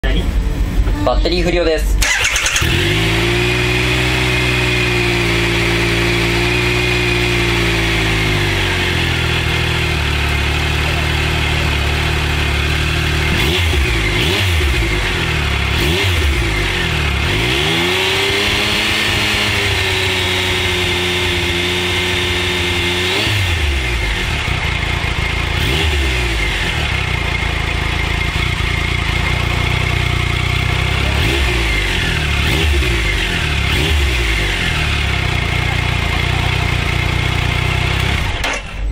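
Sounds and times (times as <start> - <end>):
motorcycle engine revving: 2.0 - 38.8.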